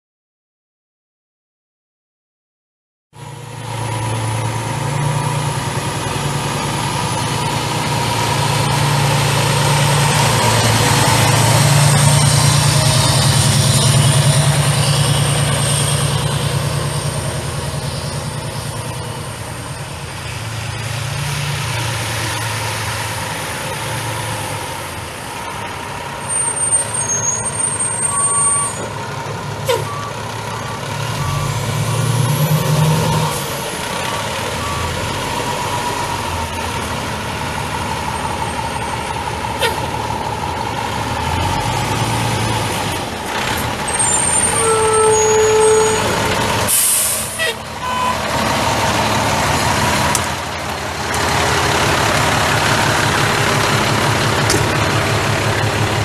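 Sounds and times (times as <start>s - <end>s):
diesel fire truck engine running: 3.2s - 56.0s.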